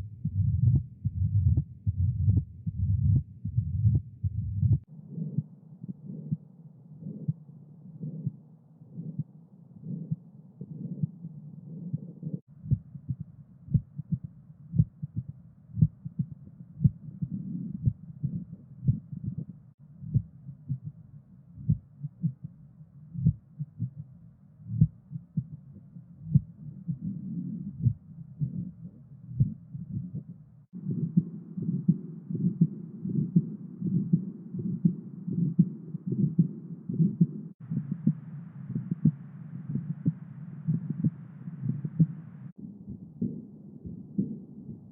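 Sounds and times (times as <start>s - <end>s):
heartbeat thuds: 0.0s - 5.5s, 11.9s - 21.0s, 21.6s - 22.5s, 23.2s - 24.1s, 24.7s - 25.6s, 26.2s - 44.9s
steady low hum: 0.0s - 44.9s.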